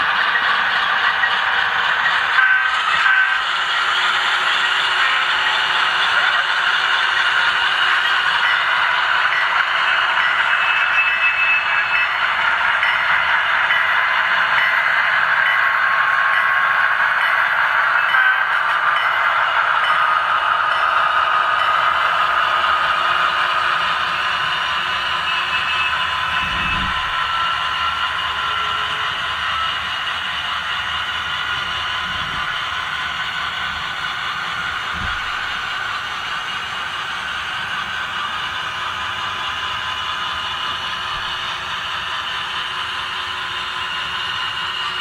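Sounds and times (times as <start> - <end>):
model train motor whirring: 0.0 - 45.0.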